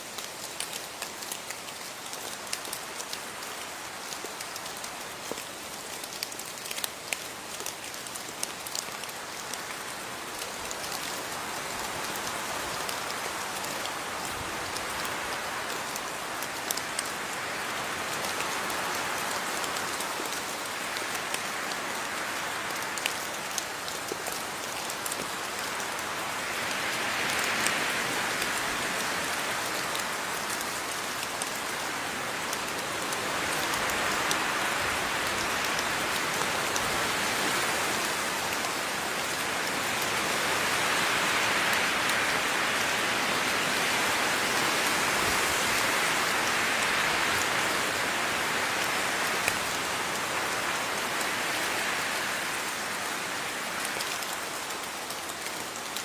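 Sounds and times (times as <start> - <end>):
raindrops ticking on surface: 0.0 - 56.0
steady rain hiss: 0.0 - 56.0.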